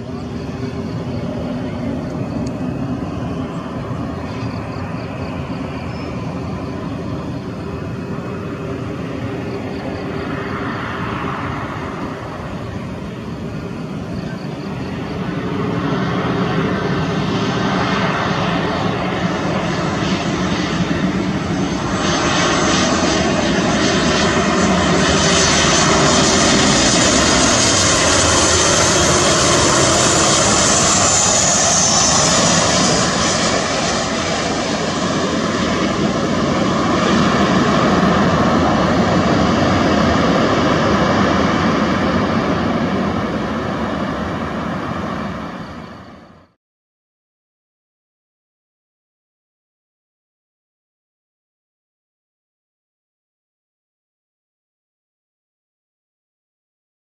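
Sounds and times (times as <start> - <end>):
jet engines whining: 0.0 - 46.6.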